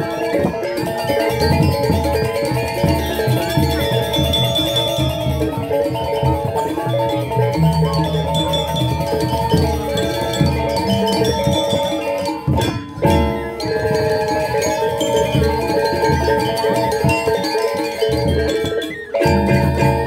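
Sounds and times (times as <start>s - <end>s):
metallophones ringing: 0.0s - 20.0s.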